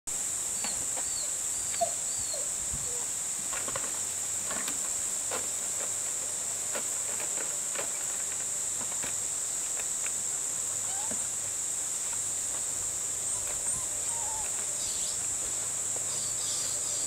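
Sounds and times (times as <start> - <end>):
high insect drone: 0.1 - 17.0.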